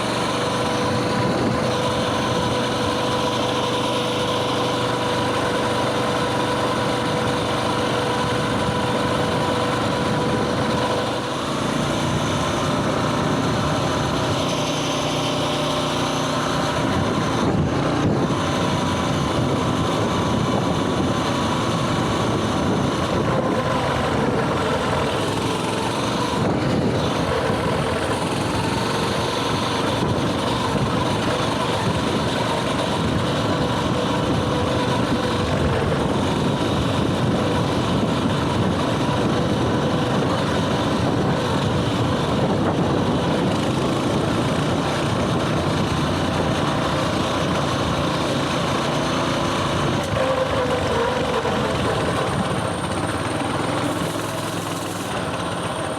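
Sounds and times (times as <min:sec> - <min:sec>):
mini bike engine running: 0:00.0 - 0:55.9.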